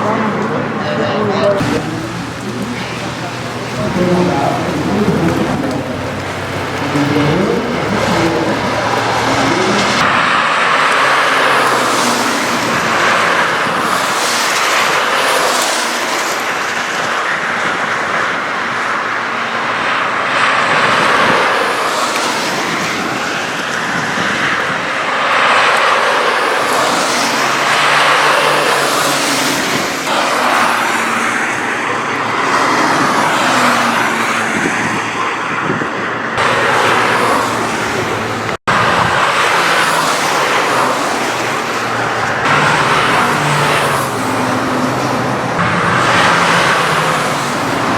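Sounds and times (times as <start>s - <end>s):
race car engines: 0.0s - 47.9s.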